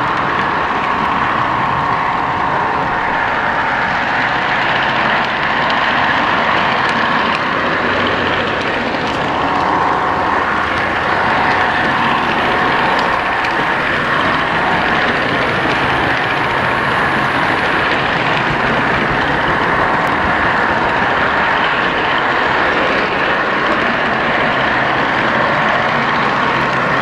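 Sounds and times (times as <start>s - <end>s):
model train wheels and motor: 0.0s - 27.0s.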